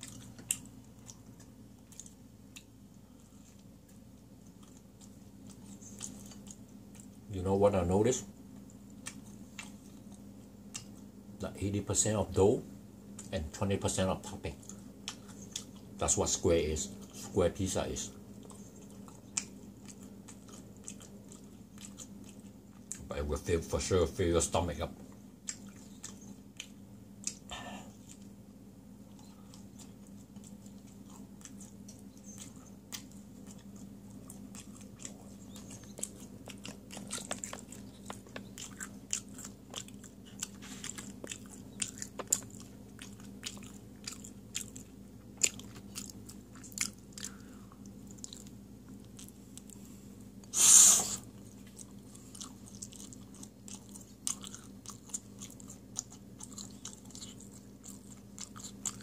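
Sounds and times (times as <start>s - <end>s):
person chewing crunchy pizza: 0.0s - 11.2s, 13.1s - 23.8s, 24.6s - 59.0s.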